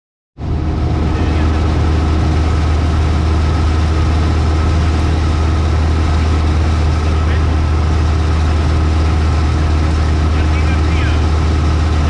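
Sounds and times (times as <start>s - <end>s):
propeller aircraft engine droning: 0.4s - 12.0s.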